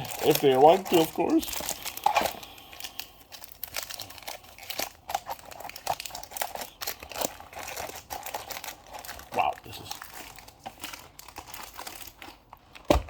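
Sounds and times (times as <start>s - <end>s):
foil card packs crinkling: 0.0s - 13.0s.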